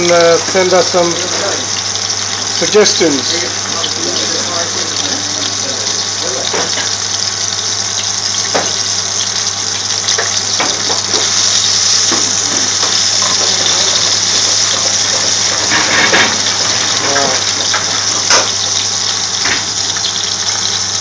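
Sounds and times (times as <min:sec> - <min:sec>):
frying in hot oil sizzling: 0:00.0 - 0:21.0.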